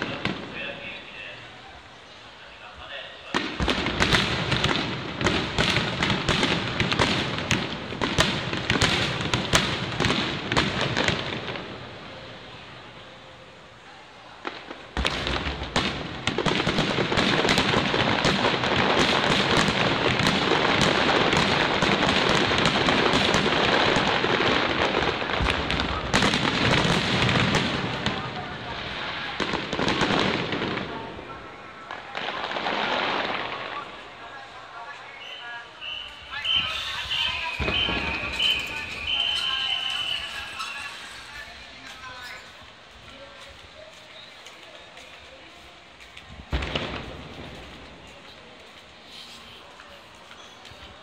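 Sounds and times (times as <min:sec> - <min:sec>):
fireworks bursting and crackling: 0:00.0 - 0:51.0.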